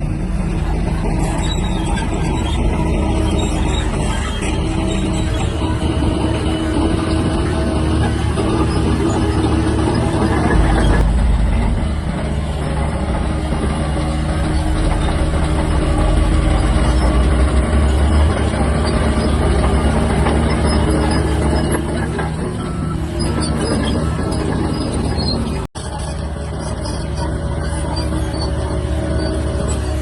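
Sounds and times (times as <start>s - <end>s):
bulldozer diesel engine rumbling: 0.0s - 30.0s.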